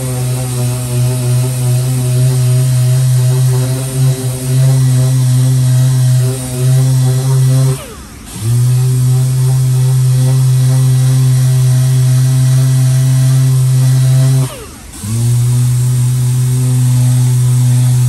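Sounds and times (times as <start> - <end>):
orbital sander running: 0.0 - 18.0.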